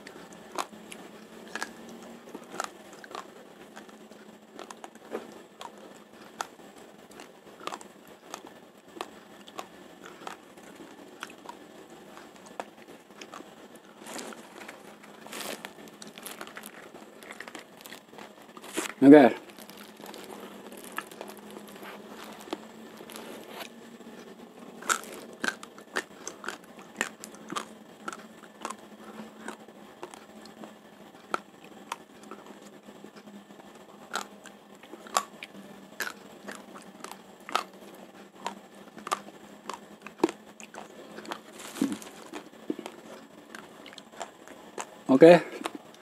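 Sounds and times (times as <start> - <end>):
rice grains crunched by teeth: 0.0 - 33.2, 34.0 - 46.0.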